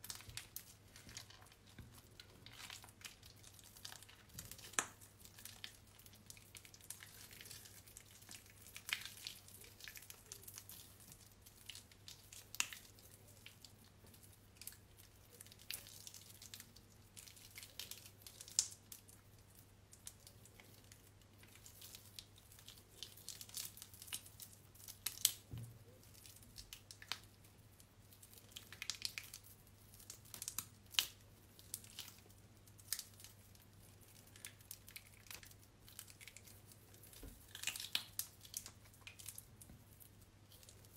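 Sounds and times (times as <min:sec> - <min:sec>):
wet soap squishing and crackling: 0:00.0 - 0:40.9.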